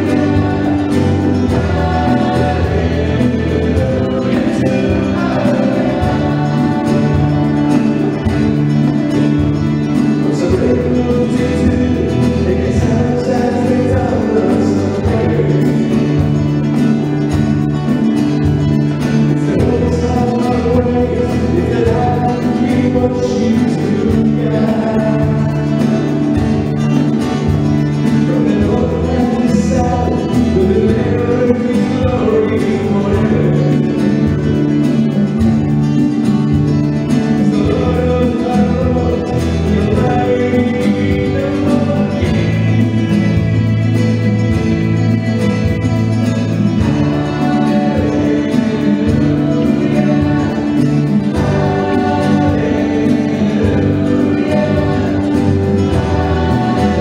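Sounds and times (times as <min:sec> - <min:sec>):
drums: 0:00.0 - 0:57.0
guitars: 0:00.0 - 0:57.0
keyboard: 0:00.0 - 0:57.0
people singing: 0:00.0 - 0:57.0.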